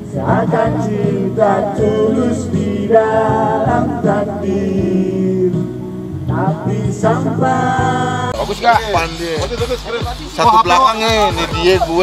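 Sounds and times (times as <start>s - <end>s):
musical backing track: 0.0s - 12.0s.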